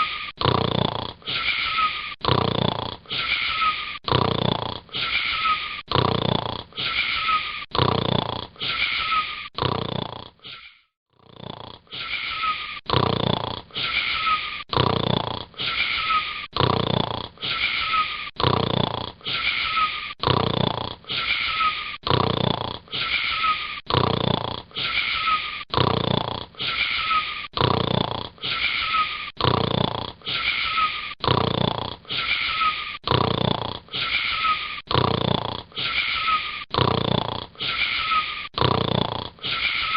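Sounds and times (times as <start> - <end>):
wheezy snoring: 0.0 - 39.9.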